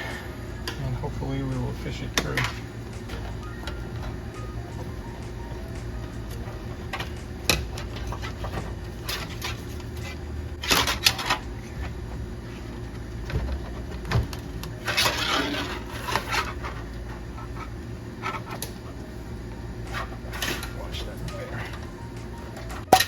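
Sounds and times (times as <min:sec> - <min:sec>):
rustling and scraping: 0:01.6 - 0:22.9.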